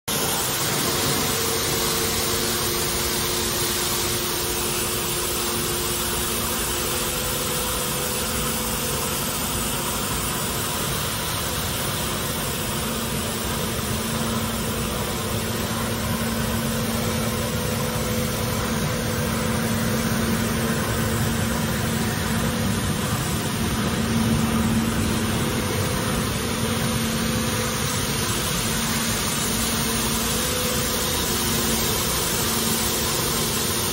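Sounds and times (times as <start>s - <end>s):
street sweeper engine hum: 0.1s - 33.9s.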